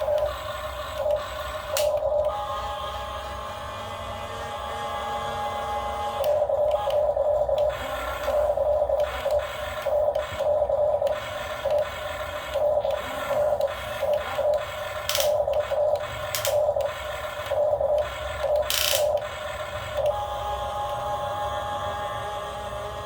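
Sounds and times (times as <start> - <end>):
small electric motors whining: 0.0 - 23.0.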